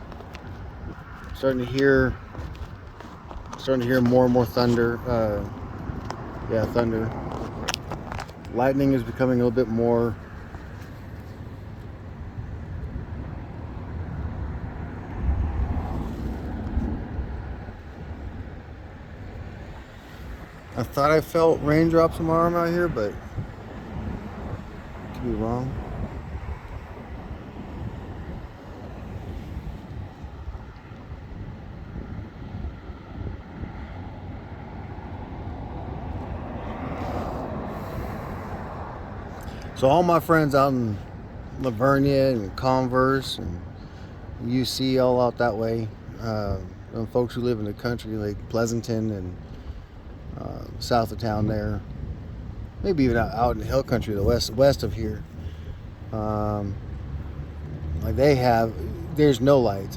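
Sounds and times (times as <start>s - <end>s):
outdoor background noise: 0.0s - 59.9s
wind buffeting microphone: 0.0s - 59.9s.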